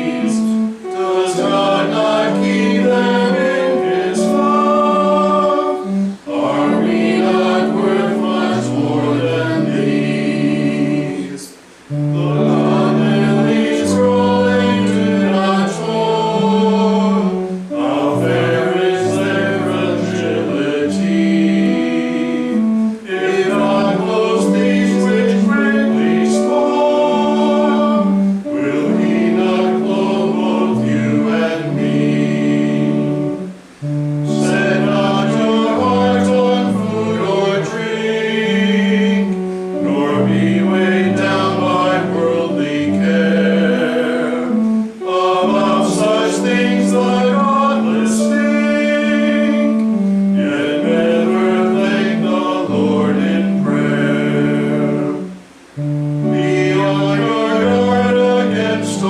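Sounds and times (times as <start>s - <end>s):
instrumental accompaniment: 0.0s - 59.0s
voices singing a hymn: 0.0s - 59.0s.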